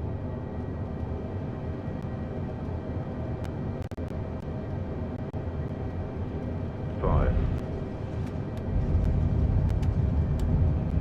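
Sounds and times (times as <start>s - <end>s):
airliner engine and airflow rumble: 0.0s - 11.0s.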